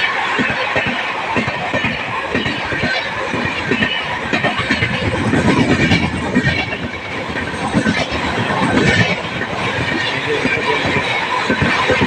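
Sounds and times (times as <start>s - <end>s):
train rushing: 0.0s - 12.0s
wheels clattering over rails: 0.0s - 12.0s.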